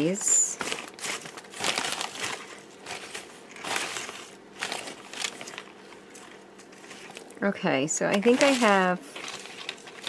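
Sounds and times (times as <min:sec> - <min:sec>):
plastic bag crinkling: 0:00.0 - 0:07.4, 0:08.0 - 0:10.0.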